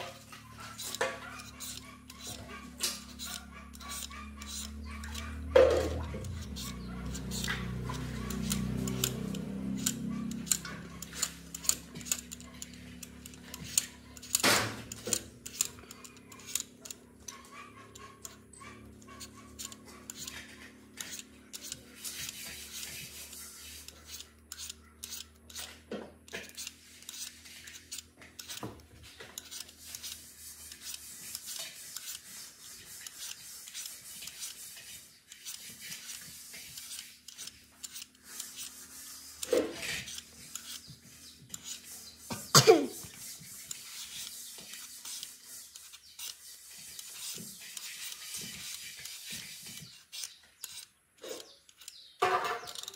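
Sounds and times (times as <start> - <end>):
scraping and rubbing: 0.0 - 52.9.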